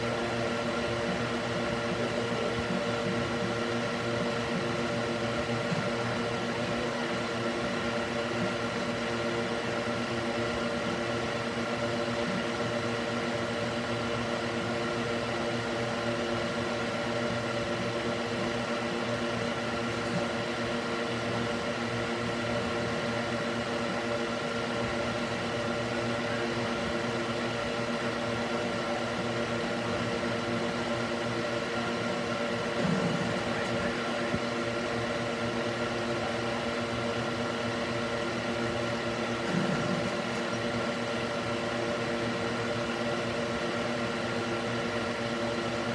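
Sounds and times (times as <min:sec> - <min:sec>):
electric fan whirring: 0:00.0 - 0:45.9.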